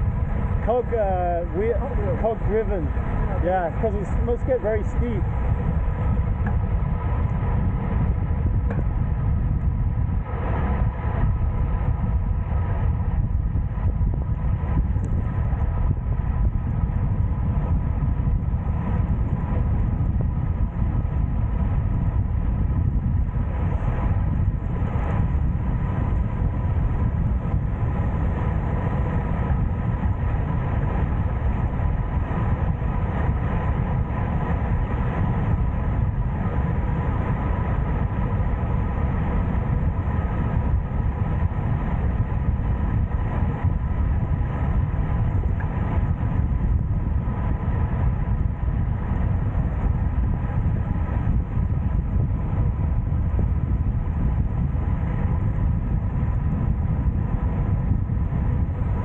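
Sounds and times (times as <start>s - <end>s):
faint steady whine: 0.0s - 59.0s
wind noise on microphone: 0.0s - 59.0s.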